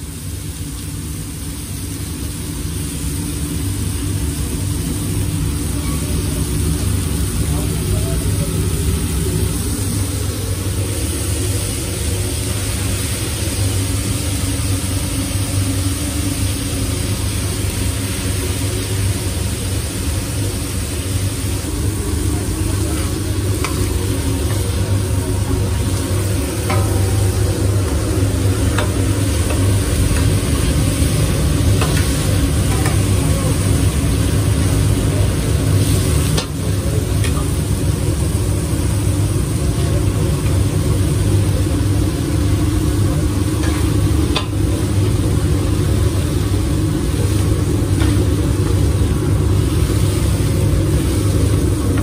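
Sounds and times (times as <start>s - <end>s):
food sizzling on griddle: 0.0s - 52.0s
steady low hum: 0.0s - 52.0s.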